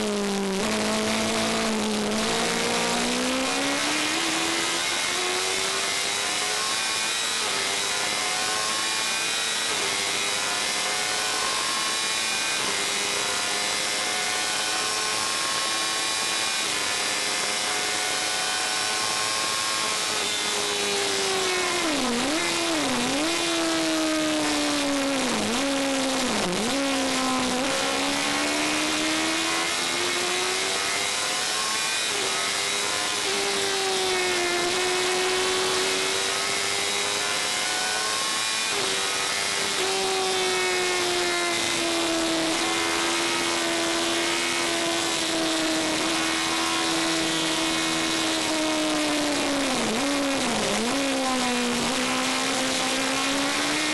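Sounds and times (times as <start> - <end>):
racing car engine: 0.0 - 53.9
wind and road noise: 0.0 - 53.9.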